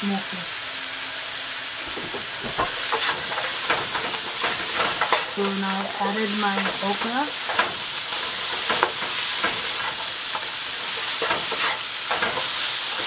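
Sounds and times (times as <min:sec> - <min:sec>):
okra sizzling in a pan: 0:00.0 - 0:13.0
wooden spatula scraping a pan: 0:01.8 - 0:13.0.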